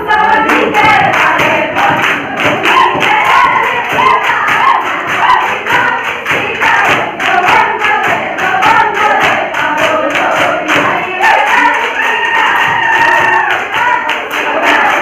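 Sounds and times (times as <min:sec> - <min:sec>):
percussion beat: 0:00.0 - 0:15.0
women singing together: 0:00.0 - 0:15.0.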